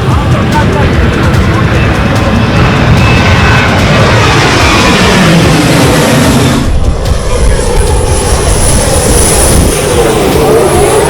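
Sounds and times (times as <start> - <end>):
speedboat engine running: 0.0 - 11.0
wind rushing over microphone: 0.0 - 11.0.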